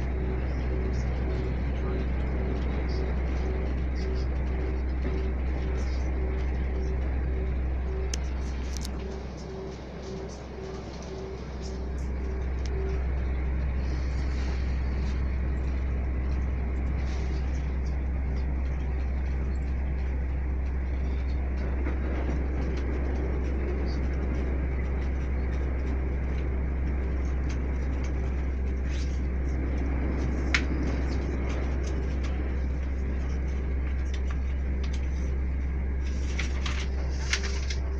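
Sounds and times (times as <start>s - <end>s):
train running at speed: 0.0s - 37.9s.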